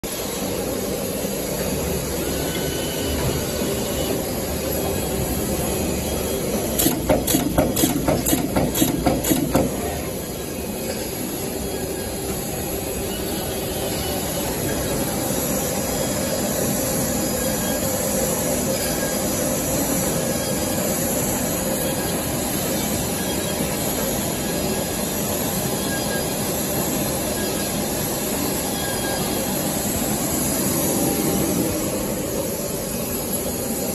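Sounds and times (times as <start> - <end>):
machine and conveyors humming: 0.0 - 33.9.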